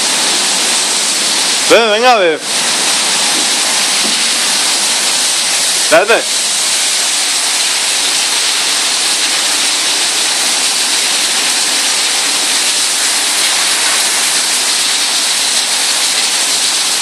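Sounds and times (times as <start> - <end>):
water spray rushing hiss: 0.0 - 17.0.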